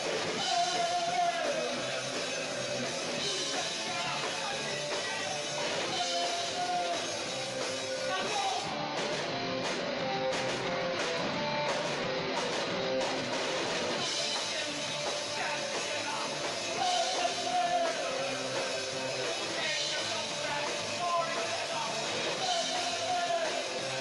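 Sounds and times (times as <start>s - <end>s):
punk rock music: 0.0s - 24.0s
strummed electric guitar: 0.0s - 24.0s.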